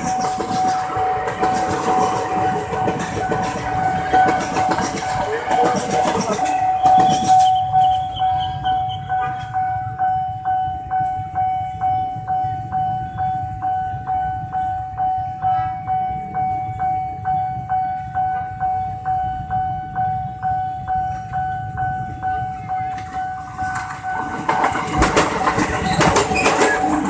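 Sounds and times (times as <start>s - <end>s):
constant warning tone: 0.0s - 27.0s
level crossing warning bell: 0.0s - 27.0s.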